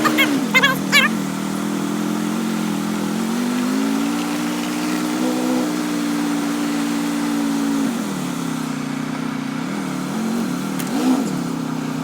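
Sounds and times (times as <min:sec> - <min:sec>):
engine running and revving: 0:00.0 - 0:12.0.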